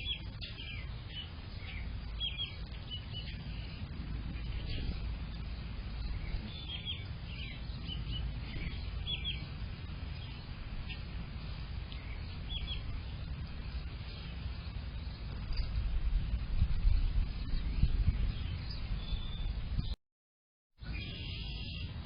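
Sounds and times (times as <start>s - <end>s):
songbirds chirping: 0.0s - 20.0s, 20.8s - 22.0s
steady low rumble: 0.0s - 20.0s.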